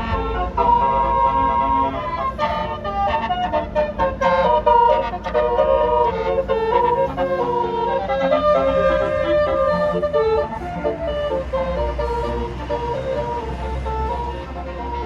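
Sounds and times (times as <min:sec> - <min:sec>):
bus engine rumble: 0:00.0 - 0:15.0
bus horn playing a tune: 0:00.0 - 0:15.0.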